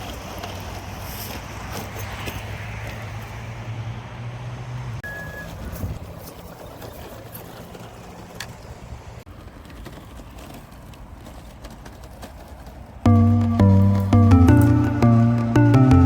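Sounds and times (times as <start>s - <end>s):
rc car tyres on dirt: 0.0s - 3.7s, 5.0s - 15.4s.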